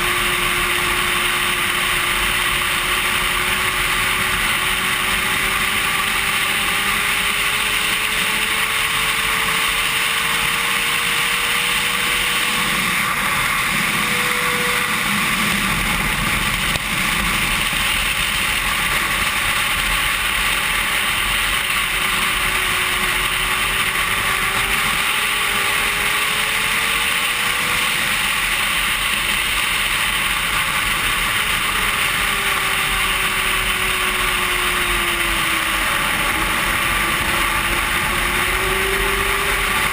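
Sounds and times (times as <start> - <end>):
motorcycle engine at speed: 0.0 - 39.9
wind roar: 0.0 - 39.9.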